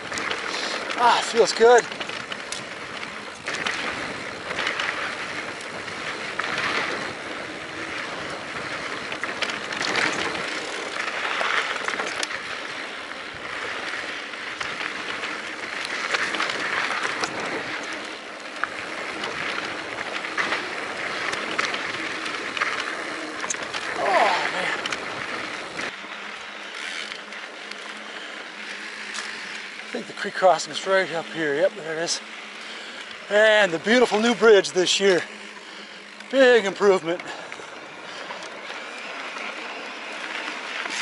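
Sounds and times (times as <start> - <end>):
bike clicks and rattles: 0.0 - 41.0.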